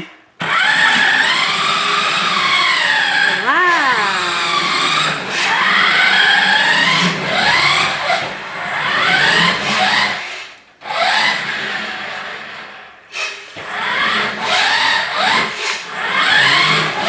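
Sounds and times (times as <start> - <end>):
toy car electric motor whining: 0.4 - 3.4, 6.0 - 17.0.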